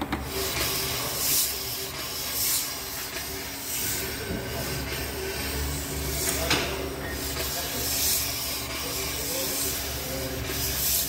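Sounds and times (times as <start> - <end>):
electric motor hiss and hum: 0.3 - 11.0.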